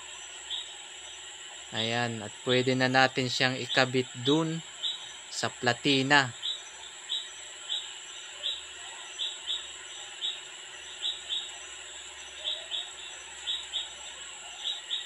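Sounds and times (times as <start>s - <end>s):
faint high whine: 0.0s - 15.0s
steady hum: 0.0s - 15.0s.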